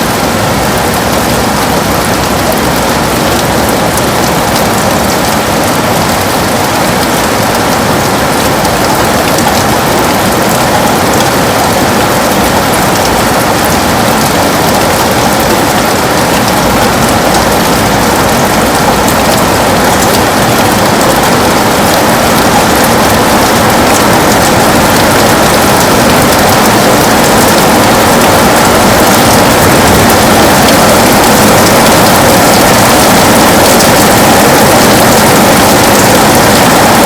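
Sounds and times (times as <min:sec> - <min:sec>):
heavy rain on a window: 0:00.0 - 0:37.0.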